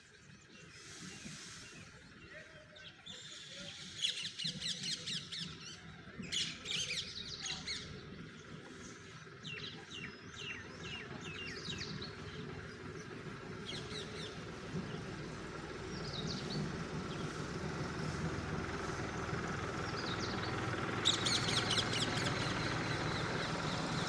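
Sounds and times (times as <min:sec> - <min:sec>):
low background rumble: 0:00.0 - 0:24.0
small birds chirping: 0:00.0 - 0:24.0.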